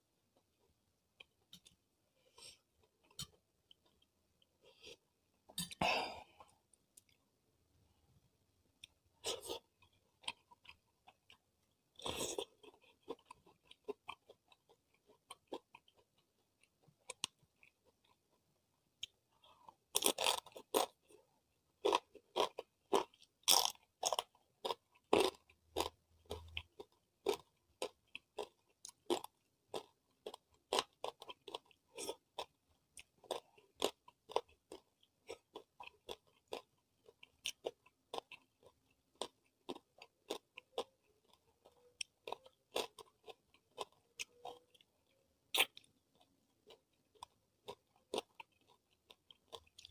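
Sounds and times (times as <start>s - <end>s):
person chewing and crunching food: 0.3s - 7.3s, 8.7s - 49.9s.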